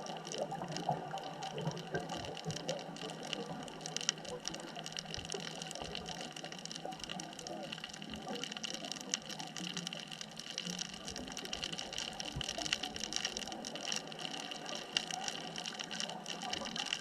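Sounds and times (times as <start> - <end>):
crackle of small clicks underwater: 0.0 - 17.0.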